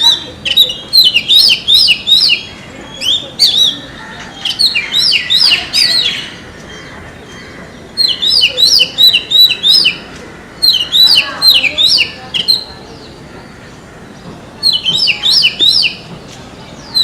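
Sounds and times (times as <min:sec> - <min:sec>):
bird singing whistled notes: 0:00.0 - 0:10.0, 0:10.6 - 0:13.6, 0:14.6 - 0:16.1.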